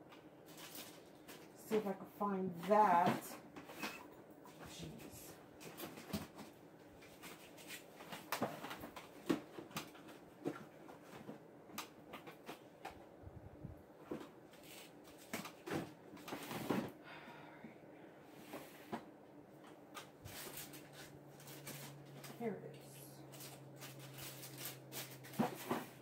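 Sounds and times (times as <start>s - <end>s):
rummaging through craft supplies: 0.1s - 13.2s, 13.8s - 17.0s, 18.4s - 26.0s.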